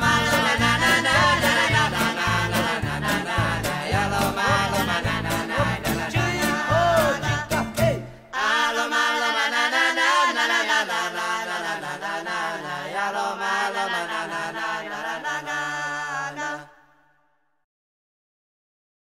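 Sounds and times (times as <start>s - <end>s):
voices chanting in harmony: 0.0s - 17.0s.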